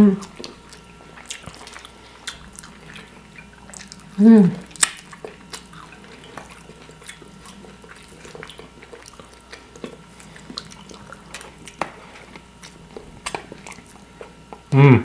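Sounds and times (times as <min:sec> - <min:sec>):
chewing and sucking: 0:00.1 - 0:14.8.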